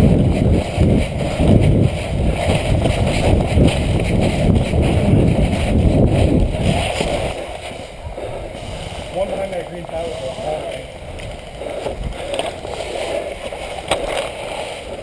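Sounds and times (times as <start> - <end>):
wind and movement rumble on microphone: 0.0 - 15.0.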